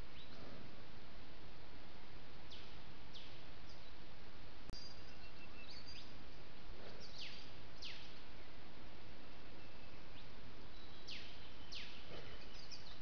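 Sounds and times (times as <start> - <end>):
microphone hiss: 0.0 - 12.1.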